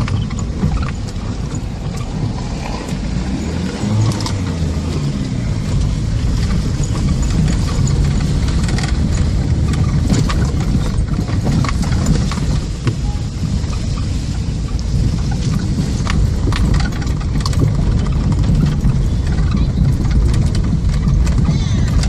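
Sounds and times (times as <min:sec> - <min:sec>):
car cabin road rumble: 0:00.0 - 0:22.0.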